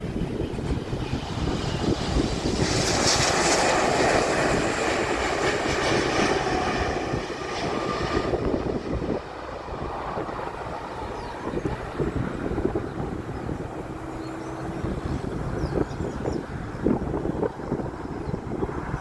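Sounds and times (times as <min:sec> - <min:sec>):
jet engine roar: 0:00.0 - 0:19.0
wind buffeting microphone: 0:00.0 - 0:19.0.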